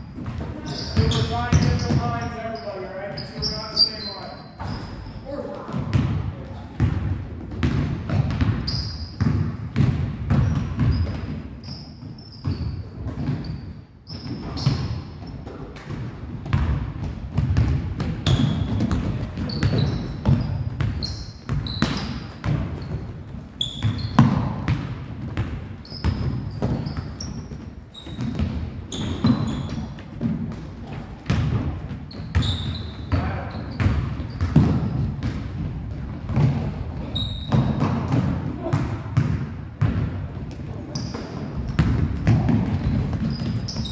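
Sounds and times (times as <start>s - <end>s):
sneakers squeaking: 0.0s - 43.9s
basketball bouncing on wooden floor: 0.2s - 2.3s, 5.6s - 43.9s.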